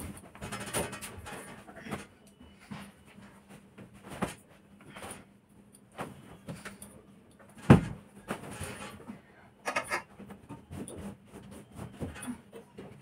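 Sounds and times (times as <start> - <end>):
clothes and bedding rustling: 0.0 - 9.4, 10.1 - 13.0.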